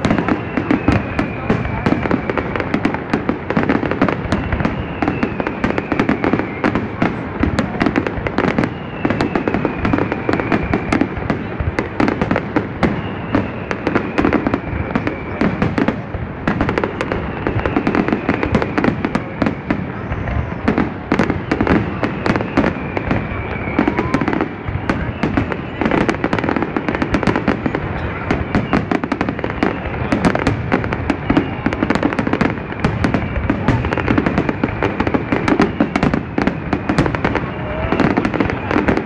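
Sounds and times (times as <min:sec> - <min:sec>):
fireworks bursting and crackling: 0:00.0 - 0:39.0.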